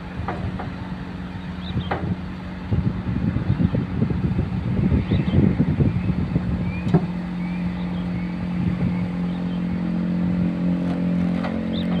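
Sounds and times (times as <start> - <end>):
truck engine running: 0.0 - 12.0
wind buffeting microphone: 0.0 - 12.0.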